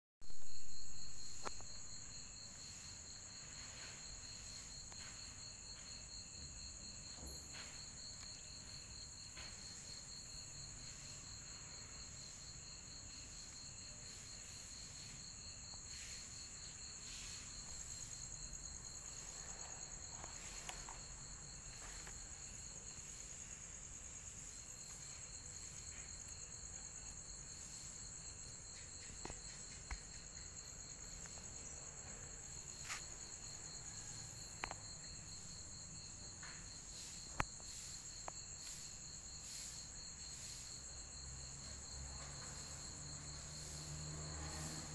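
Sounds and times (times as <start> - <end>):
insects trilling: 0.2 - 44.9.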